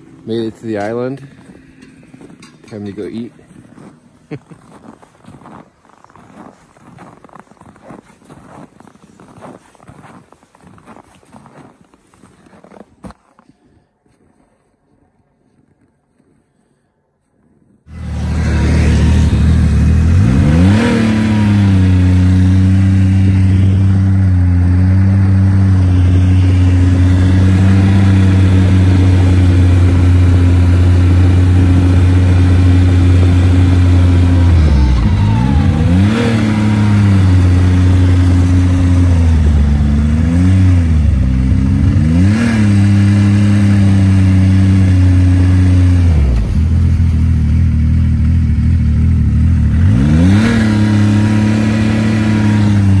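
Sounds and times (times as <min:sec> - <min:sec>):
snowmobile engine running: 0:00.0 - 0:08.1, 0:17.9 - 0:53.0.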